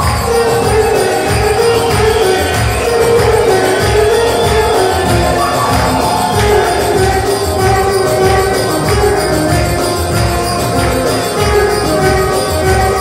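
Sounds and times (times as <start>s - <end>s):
dance music with drum beat: 0.0s - 13.0s
handclapping: 0.0s - 13.0s
jingling percussion: 0.0s - 13.0s.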